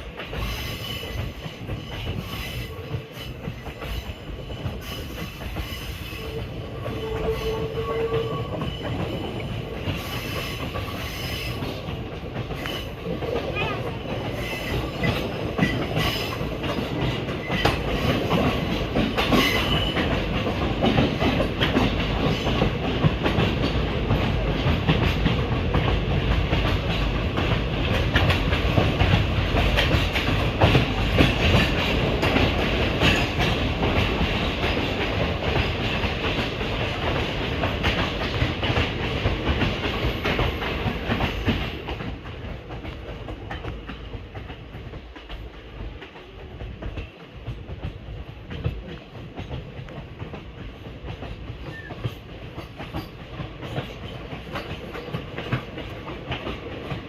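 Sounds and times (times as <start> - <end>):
train rumble: 0.0 - 57.0
train wheels clicking over rail joints: 0.0 - 57.0.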